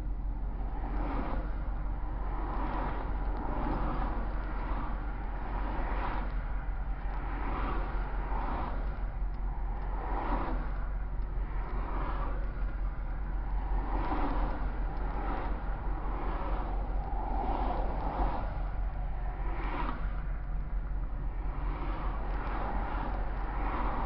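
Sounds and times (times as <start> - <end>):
low traffic hum: 0.0 - 24.0
vehicles swishing past: 0.8 - 24.0.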